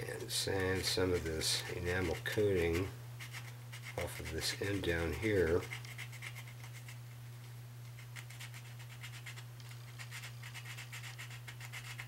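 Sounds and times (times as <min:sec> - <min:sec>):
steady low hum: 0:00.0 - 0:12.0
sandpaper scratching on wire: 0:00.3 - 0:07.0, 0:08.0 - 0:12.0.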